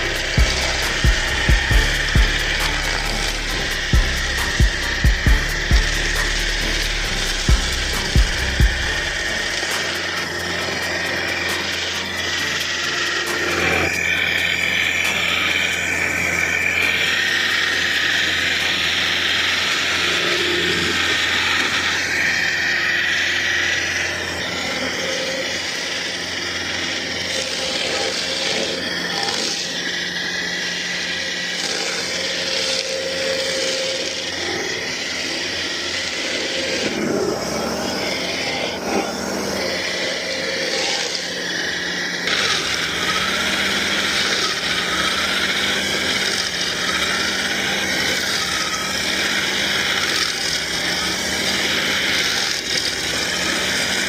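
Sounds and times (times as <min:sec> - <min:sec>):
cutter wheel chewing wood: 0:00.0 - 0:54.0
stump grinder engine humming: 0:00.0 - 0:54.0.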